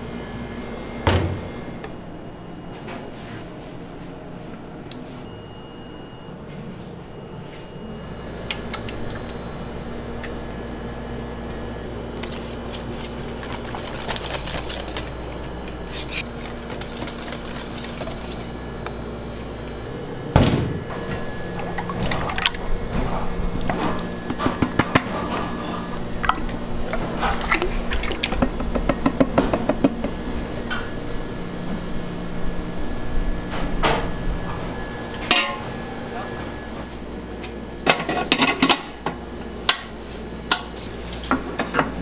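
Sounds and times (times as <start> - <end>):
background hum: 0.0 - 42.0.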